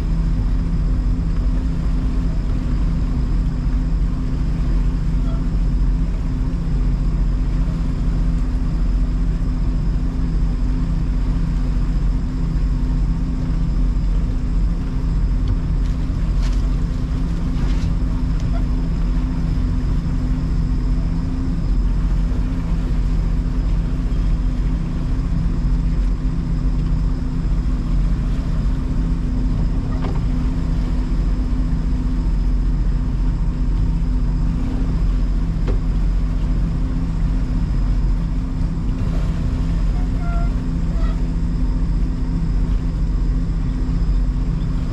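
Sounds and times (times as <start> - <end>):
motorboat engine droning: 0.0 - 44.9.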